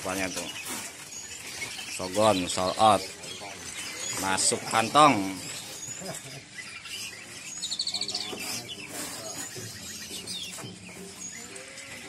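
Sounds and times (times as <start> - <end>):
fast bird trill: 0.0 - 11.9
songbirds chirping: 0.0 - 12.0.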